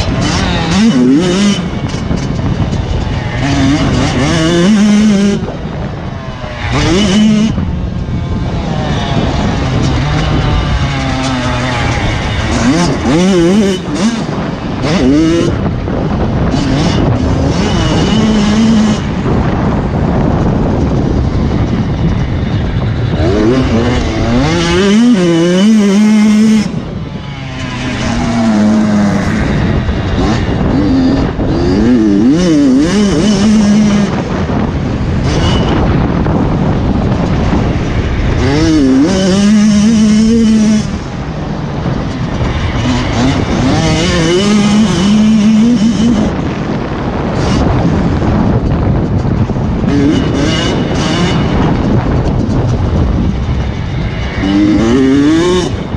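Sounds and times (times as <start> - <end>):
motocross engines revving: 0.0 - 55.9.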